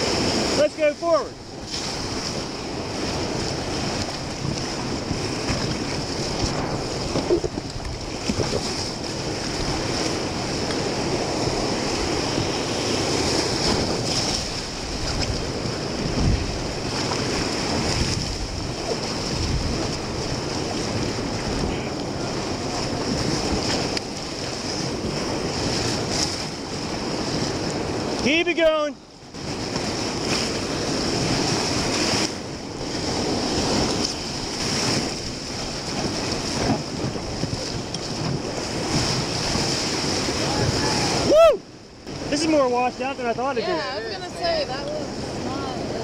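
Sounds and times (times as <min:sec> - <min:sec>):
river rapid rushing and splashing: 0:00.0 - 0:46.0.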